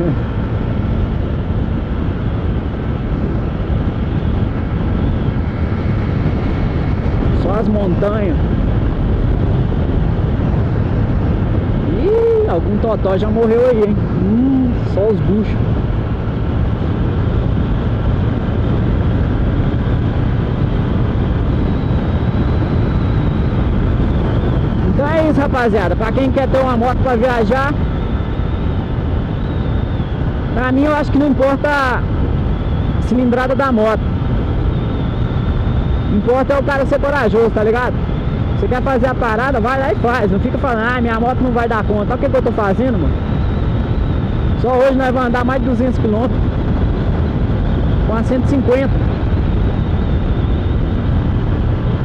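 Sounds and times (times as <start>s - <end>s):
motorcycle engine cruising: 0.0s - 52.0s
wind buffeting microphone: 0.0s - 52.0s.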